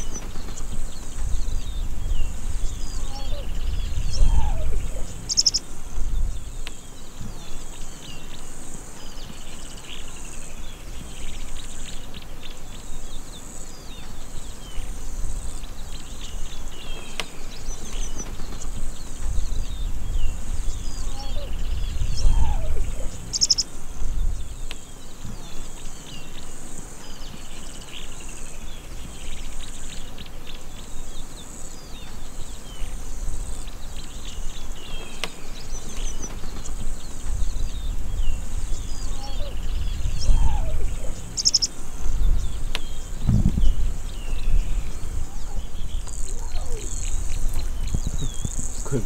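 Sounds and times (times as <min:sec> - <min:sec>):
small bird chirps: 0:00.0 - 0:10.4, 0:11.2 - 0:49.0
high insect drone: 0:00.0 - 0:49.0.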